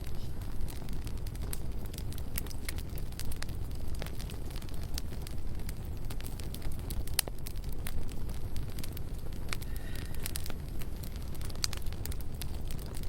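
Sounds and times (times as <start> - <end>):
campfire crackles and pops: 0.0 - 13.0
low fire rumble: 0.0 - 13.0.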